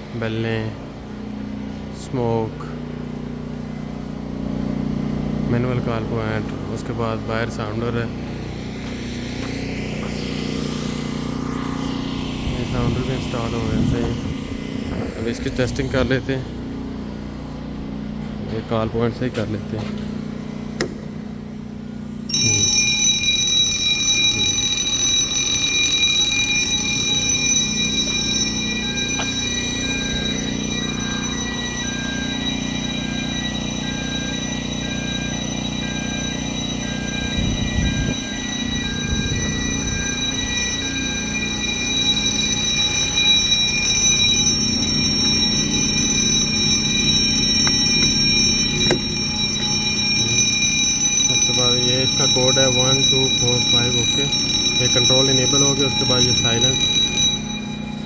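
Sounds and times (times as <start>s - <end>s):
loud high-pitched fire alarm: 0.0s - 58.0s.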